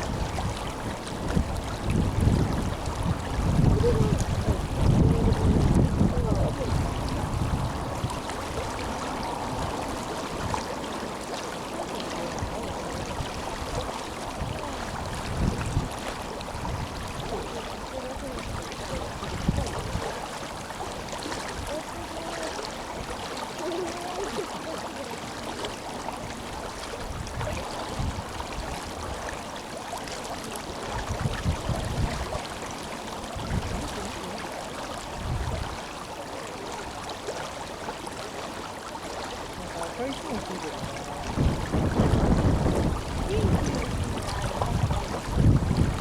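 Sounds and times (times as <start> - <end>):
wind buffeting microphone: 0.0 - 24.5, 26.1 - 29.4, 30.6 - 35.9, 39.4 - 46.0
river water rushing: 0.0 - 46.0.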